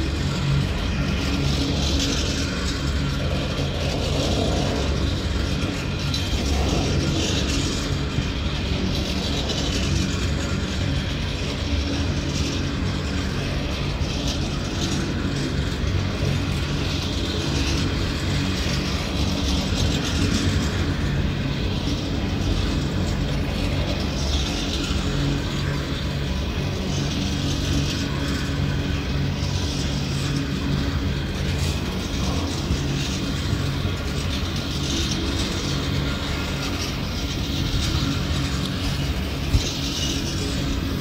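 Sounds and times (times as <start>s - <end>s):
train wheels rumbling on track: 0.0s - 41.0s.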